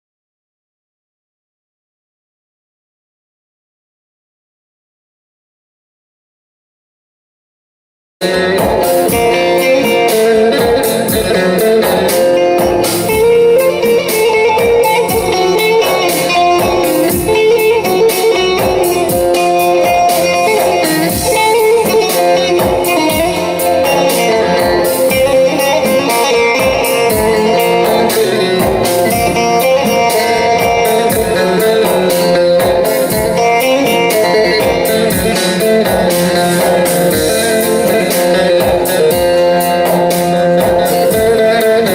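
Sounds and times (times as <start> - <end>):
plucked string instruments melody: 8.2 - 41.9.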